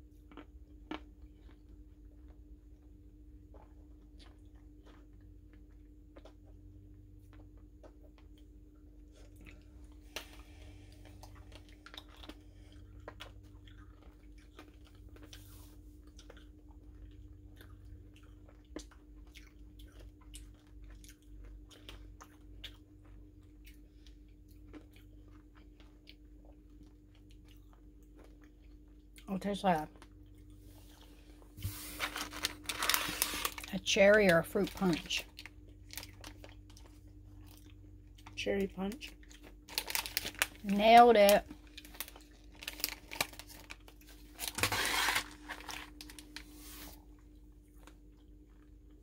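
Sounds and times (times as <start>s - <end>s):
chewing and crunching candy: 0.0s - 49.0s.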